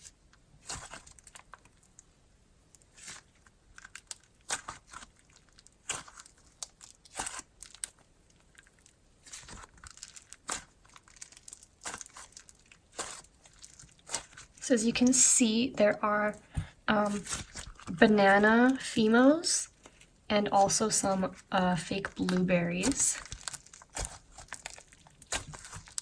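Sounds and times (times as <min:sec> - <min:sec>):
slime squished by hand: 0:00.0 - 0:02.0, 0:02.8 - 0:15.2, 0:16.3 - 0:26.0.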